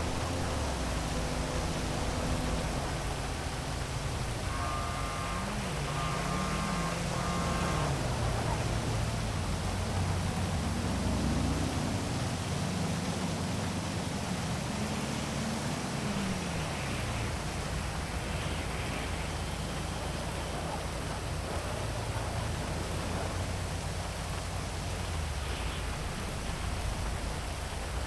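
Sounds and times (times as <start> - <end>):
city traffic: 0.0 - 28.0
heavy rain hiss: 0.0 - 28.0
vehicle engine passing: 0.0 - 28.0.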